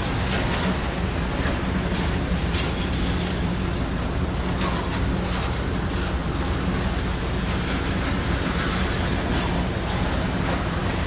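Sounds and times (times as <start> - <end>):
model trains rumbling: 0.0 - 11.0.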